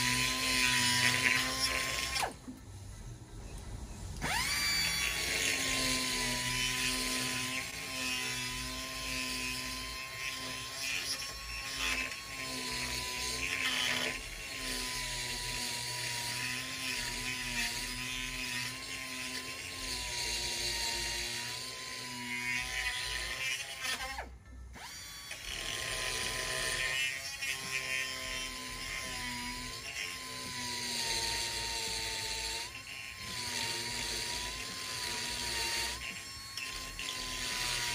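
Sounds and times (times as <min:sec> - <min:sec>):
die grinder whining: 0:00.0 - 0:02.5, 0:04.1 - 0:37.9
burr grinding metal: 0:00.0 - 0:37.9.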